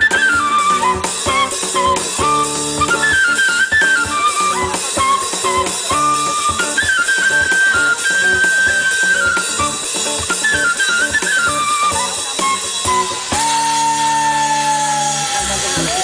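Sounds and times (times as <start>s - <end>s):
drum kit: 0.0s - 16.0s
electric guitar: 0.0s - 16.0s
flute-like wind instrument melody: 0.0s - 16.0s.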